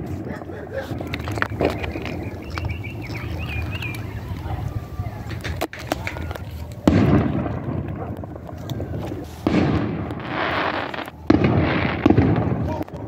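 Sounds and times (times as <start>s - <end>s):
firework hiss: 0.0s - 12.8s
fireworks booming: 0.0s - 13.0s.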